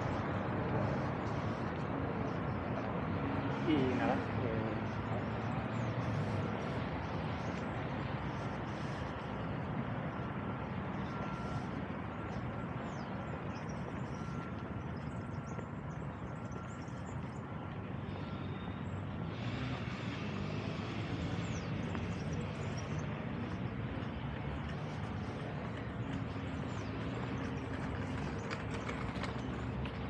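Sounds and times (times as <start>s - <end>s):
distant city traffic rumble: 0.0s - 30.0s.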